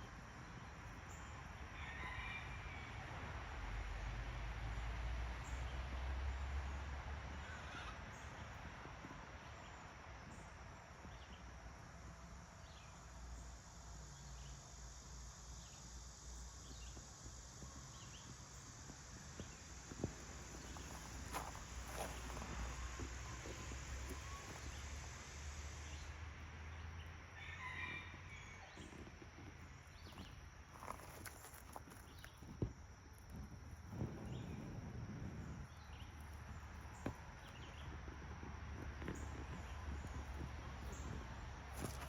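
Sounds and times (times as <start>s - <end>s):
faint high bird or insect calls: 0.0s - 3.2s, 6.6s - 8.7s, 9.4s - 42.0s.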